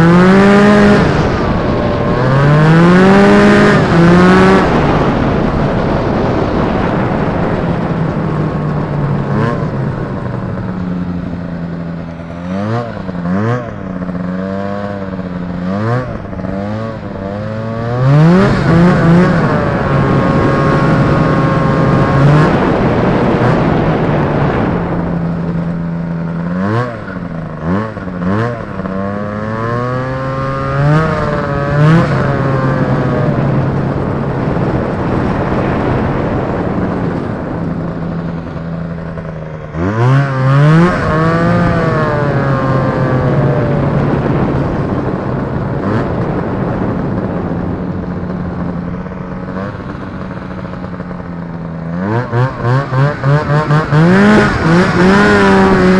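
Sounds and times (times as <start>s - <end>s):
snowmobile engine running: 0.0s - 55.9s
track rushing over snow: 0.0s - 55.9s.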